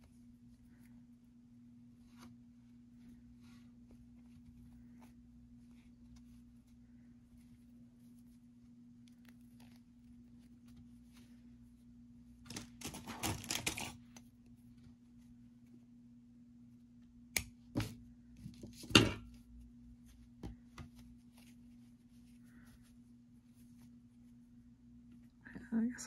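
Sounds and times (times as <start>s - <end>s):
yarn rustling: 0.0s - 15.8s, 18.7s - 24.6s.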